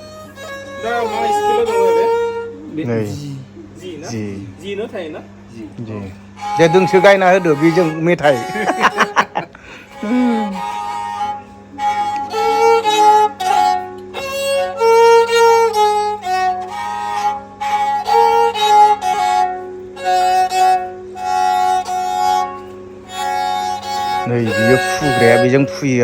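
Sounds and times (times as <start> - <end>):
bowed fiddle melody: 0.0 - 26.0.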